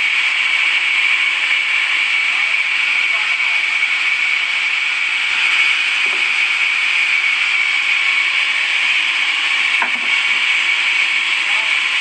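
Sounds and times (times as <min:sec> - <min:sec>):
saw cutting through wood: 0:00.0 - 0:12.0.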